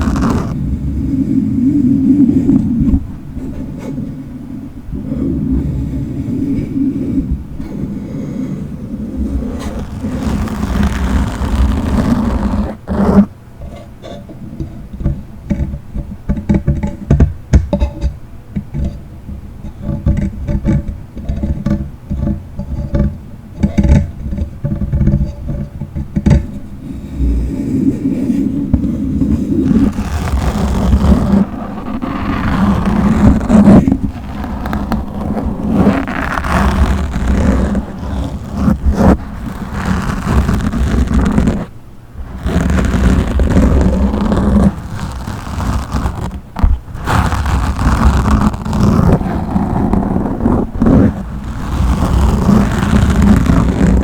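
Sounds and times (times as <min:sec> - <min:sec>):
microphone being scratched: 0:00.0 - 0:04.2, 0:04.9 - 0:14.2, 0:19.7 - 0:54.0.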